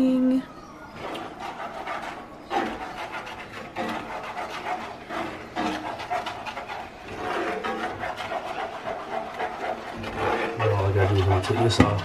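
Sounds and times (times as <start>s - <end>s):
sauce simmering: 0.8s - 12.0s
spoon scraping a skillet: 0.9s - 12.0s.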